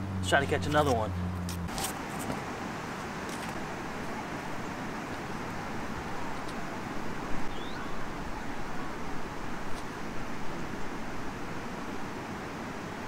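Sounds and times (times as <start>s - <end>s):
road traffic: 0.0s - 13.0s
river water over rocks: 0.6s - 13.0s.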